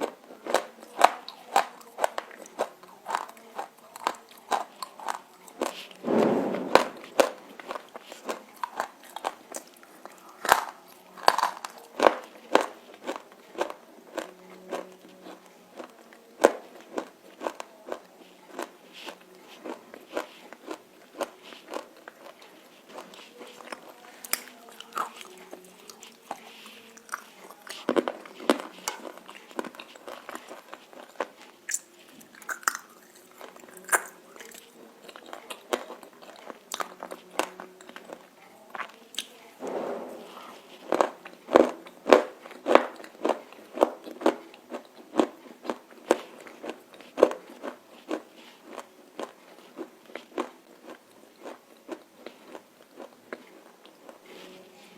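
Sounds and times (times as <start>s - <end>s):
crunching and chewing clay: 0.0s - 6.0s, 7.1s - 39.5s, 40.6s - 54.9s.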